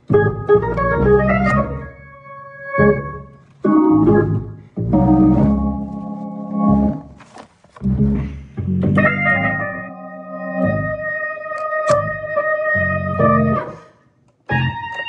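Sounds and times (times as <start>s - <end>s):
organ playing held chords: 0.0s - 7.2s, 8.8s - 13.8s.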